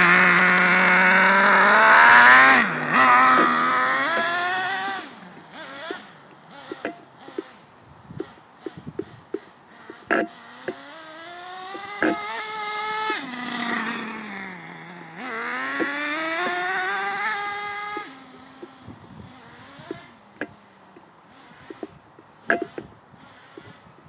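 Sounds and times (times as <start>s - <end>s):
small nitro engine revving: 0.0s - 24.0s.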